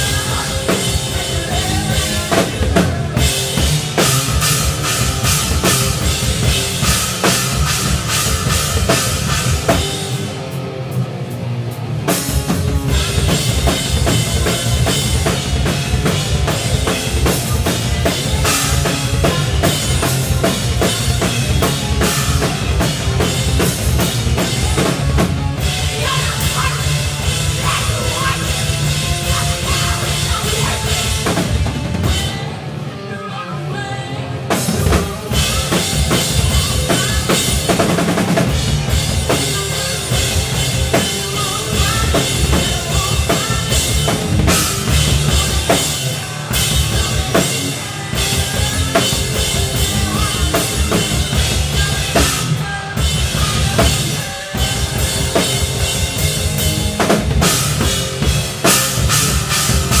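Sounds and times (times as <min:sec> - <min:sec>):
live rock band playing: 0:00.0 - 1:00.0.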